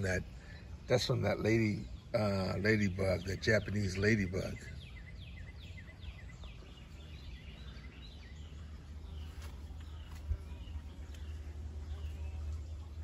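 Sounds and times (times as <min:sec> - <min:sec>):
faint birds chirping: 0:00.0 - 0:13.0
steady low rumble: 0:00.0 - 0:13.0.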